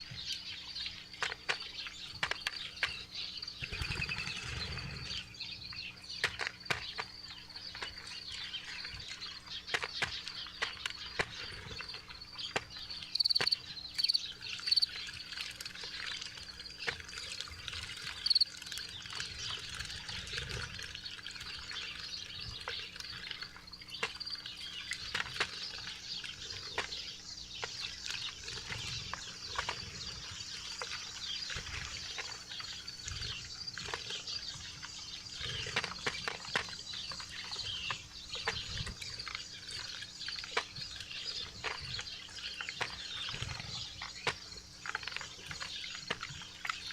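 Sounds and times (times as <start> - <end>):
faint steady hum: 0.0 - 46.9
small birds chirping: 0.0 - 46.9.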